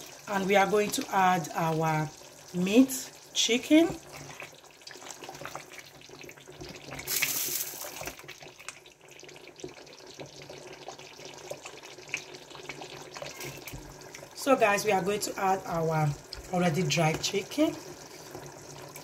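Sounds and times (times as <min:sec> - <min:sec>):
stew bubbling in a pot: 0:00.0 - 0:19.0.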